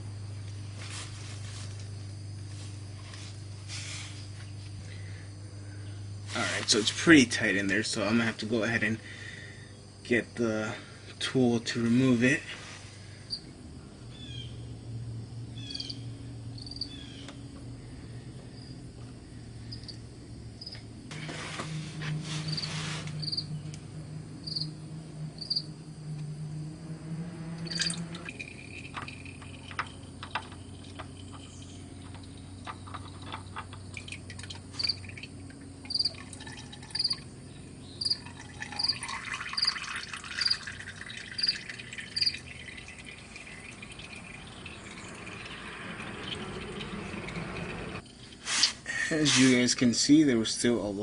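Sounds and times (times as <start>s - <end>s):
cricket chirping: 0.0s - 51.0s
low steady hum: 0.0s - 51.0s.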